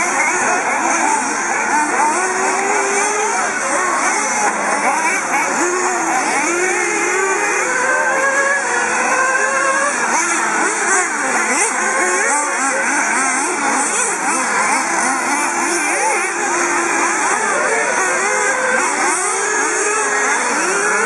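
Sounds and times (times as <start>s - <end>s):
rc car engines revving: 0.0s - 21.0s.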